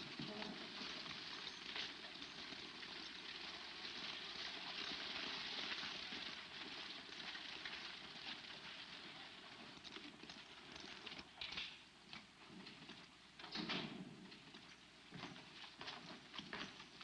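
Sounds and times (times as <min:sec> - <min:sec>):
film soundtrack hiss and crackle: 0:00.0 - 0:17.0.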